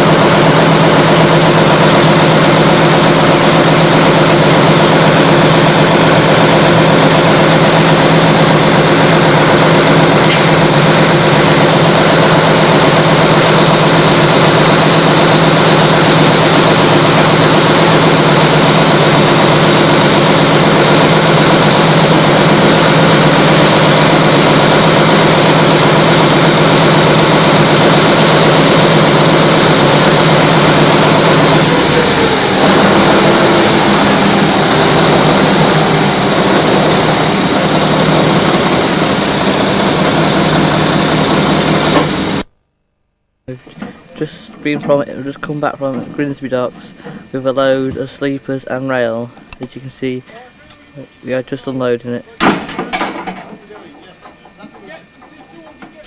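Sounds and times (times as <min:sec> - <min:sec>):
engine running steadily: 0:00.0 - 0:42.5, 0:43.5 - 0:56.0.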